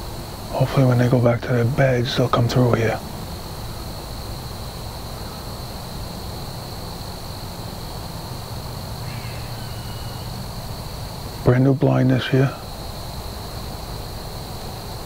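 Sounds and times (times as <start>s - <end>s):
crickets trilling: 0.0s - 15.0s
low hum and hiss: 0.0s - 15.0s.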